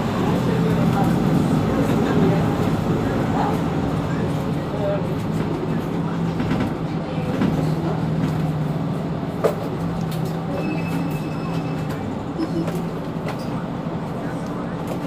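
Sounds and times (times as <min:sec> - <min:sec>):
bus engine idling hum: 0:00.0 - 0:15.0.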